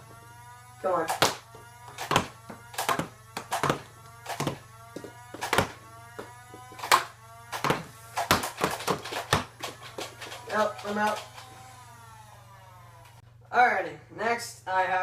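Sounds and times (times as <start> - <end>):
blaster motor whine: 0.0 - 13.2
toy dart blaster firing: 0.0 - 13.2.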